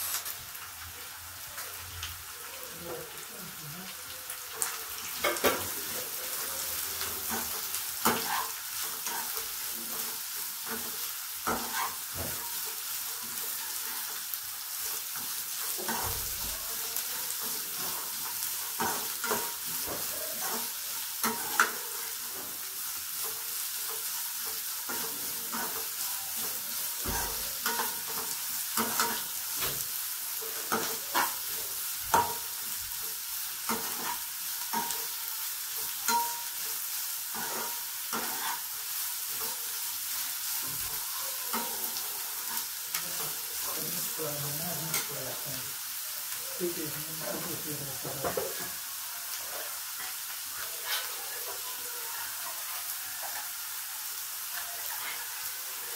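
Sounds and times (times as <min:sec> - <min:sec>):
vegetables sizzling in wok: 0:00.0 - 0:55.9.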